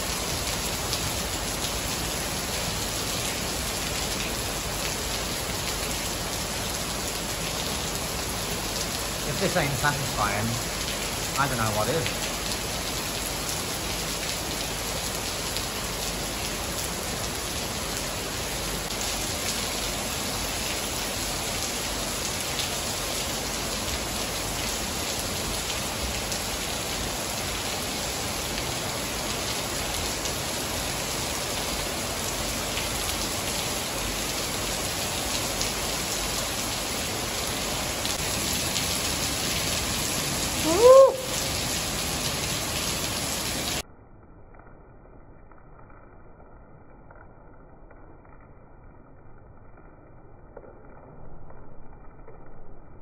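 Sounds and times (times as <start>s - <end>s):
heavy rain pouring: 0.0s - 43.8s.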